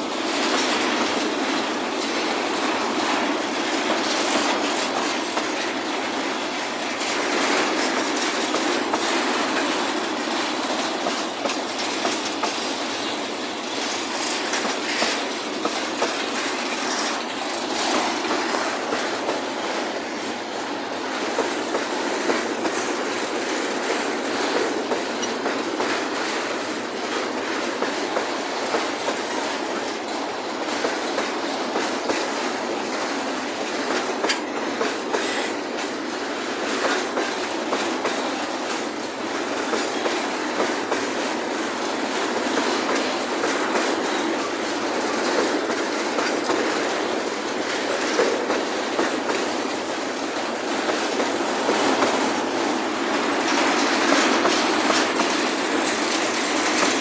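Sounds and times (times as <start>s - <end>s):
train wheels clattering over rails: 0.0s - 57.0s.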